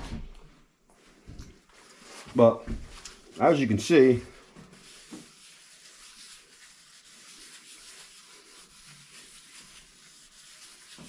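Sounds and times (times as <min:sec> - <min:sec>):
cloth rubbing on cast iron: 0:01.0 - 0:11.0.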